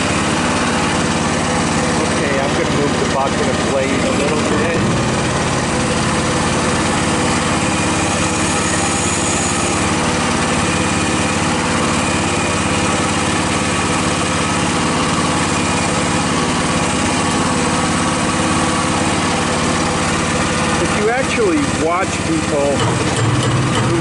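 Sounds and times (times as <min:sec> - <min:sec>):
mini excavator engine running: 0:00.0 - 0:24.0.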